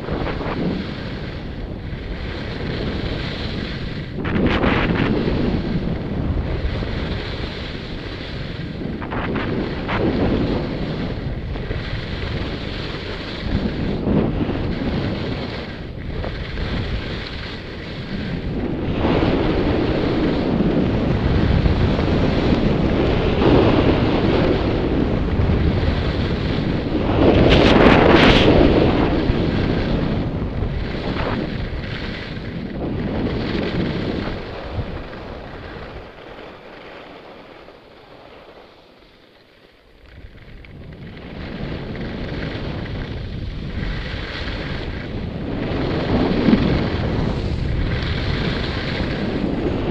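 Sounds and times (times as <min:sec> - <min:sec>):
wind rushing over microphone: 0:00.0 - 0:38.8, 0:39.8 - 0:49.9
skis scraping on icy snow: 0:00.0 - 0:49.9.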